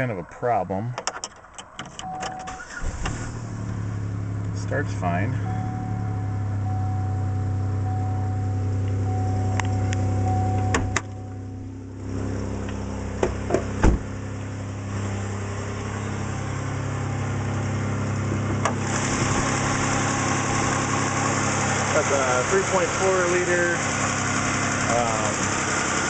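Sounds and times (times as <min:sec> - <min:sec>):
car engine idling: 0:01.4 - 0:26.0.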